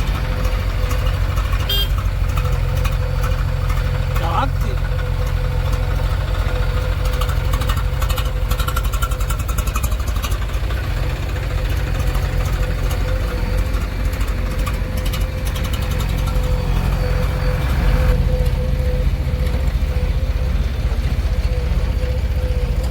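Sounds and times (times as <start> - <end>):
diesel engine rumbling: 0.0 - 22.9
rapid light ticking: 0.0 - 22.9.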